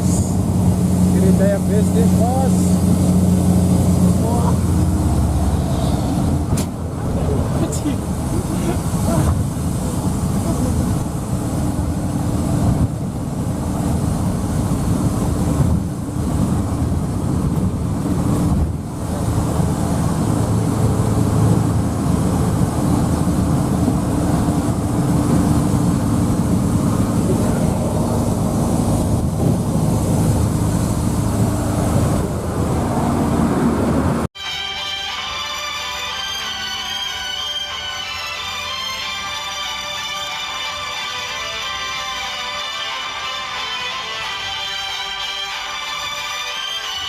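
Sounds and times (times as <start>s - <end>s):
vehicle engine and road noise: 0.0s - 47.0s.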